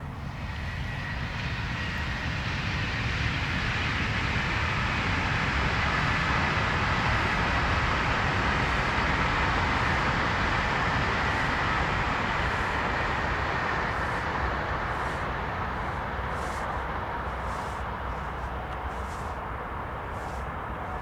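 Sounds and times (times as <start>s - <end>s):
electric train rumbling: 0.0s - 21.0s
faint high whine: 0.0s - 21.0s.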